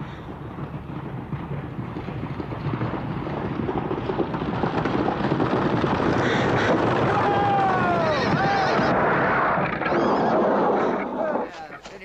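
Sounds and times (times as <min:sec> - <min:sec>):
horse-drawn coach rumbling: 0:00.0 - 0:12.0.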